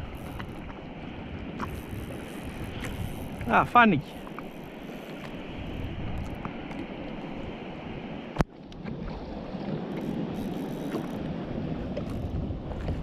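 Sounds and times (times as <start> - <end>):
waves lapping against kayak: 0.0 - 13.0
wind on microphone: 0.0 - 13.0.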